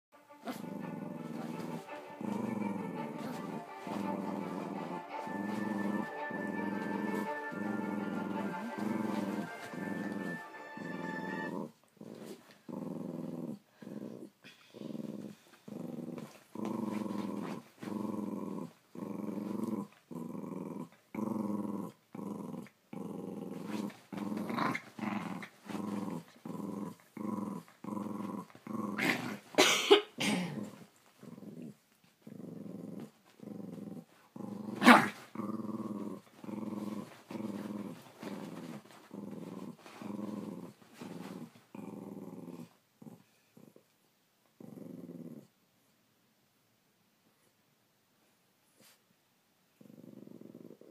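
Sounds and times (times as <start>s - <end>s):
small dog growling: 0.4s - 29.6s, 30.2s - 43.9s, 44.6s - 45.6s, 49.7s - 50.9s.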